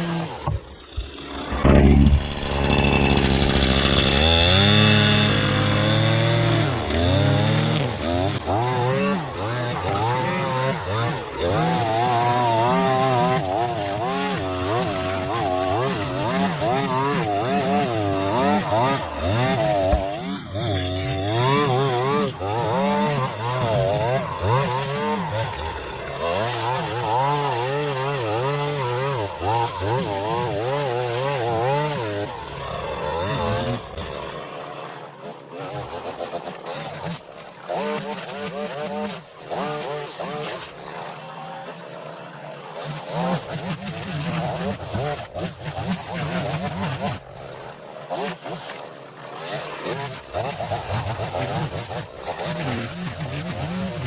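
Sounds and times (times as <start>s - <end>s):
small petrol engine revving: 0.0s - 42.0s, 42.6s - 54.0s
chainsaw cutting wood: 0.0s - 54.0s.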